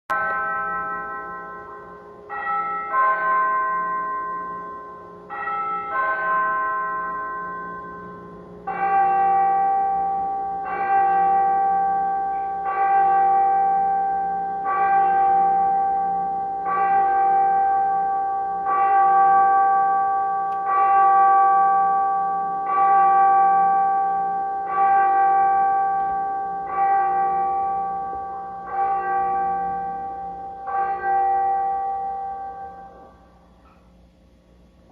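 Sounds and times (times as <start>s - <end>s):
large church bell tolling: 0.1s - 34.9s.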